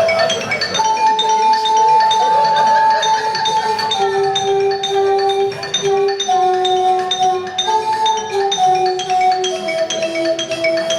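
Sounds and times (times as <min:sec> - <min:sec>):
glass bottle melody: 0:00.0 - 0:10.9.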